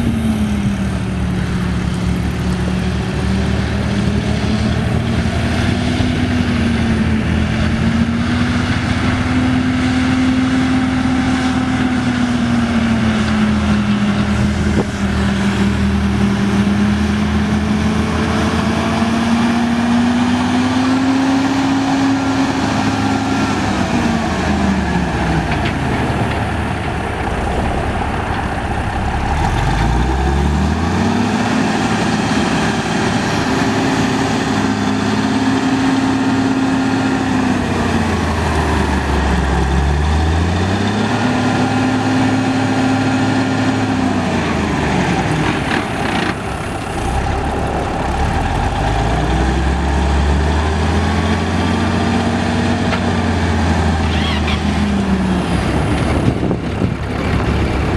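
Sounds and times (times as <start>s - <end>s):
diesel truck engine accelerating: 0.0s - 57.9s.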